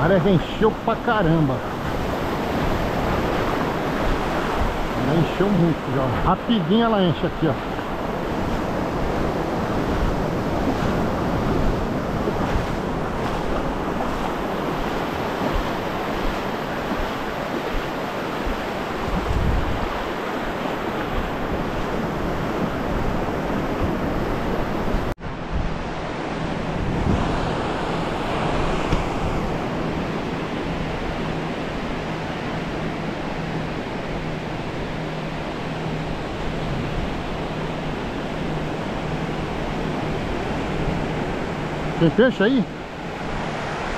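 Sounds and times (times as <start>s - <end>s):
ocean surf breaking: 0.0s - 43.9s
wind buffeting microphone: 1.3s - 6.5s, 7.2s - 42.0s.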